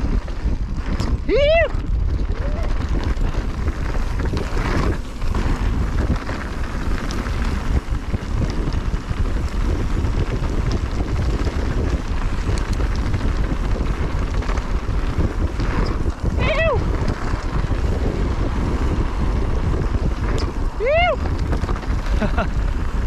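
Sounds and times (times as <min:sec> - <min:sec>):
bike clicks and rattles: 0:00.0 - 0:23.0
tyres rolling over dirt: 0:00.0 - 0:23.0
wind rumbling on microphone: 0:00.0 - 0:23.0.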